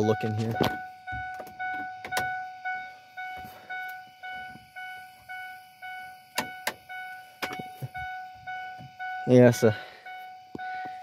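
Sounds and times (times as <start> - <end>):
car warning chime dinging: 0.0 - 11.0.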